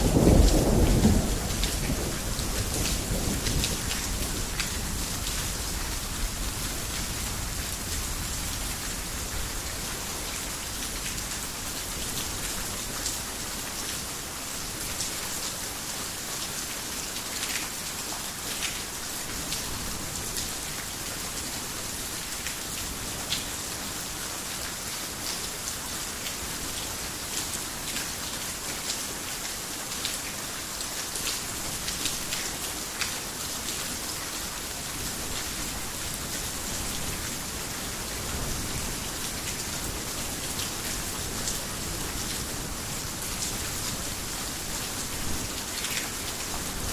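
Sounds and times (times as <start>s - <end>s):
heavy rain on a roof: 0.0s - 46.9s.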